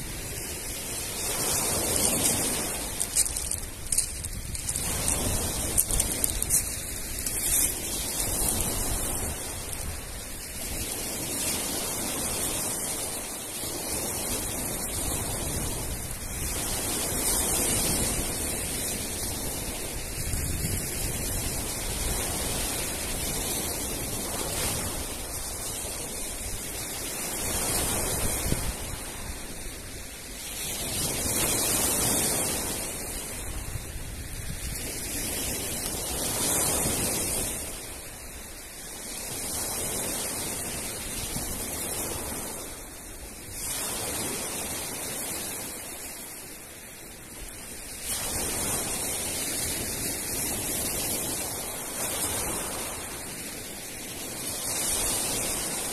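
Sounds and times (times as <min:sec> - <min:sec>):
surf breaking on pebble beach: 0:00.0 - 0:55.9.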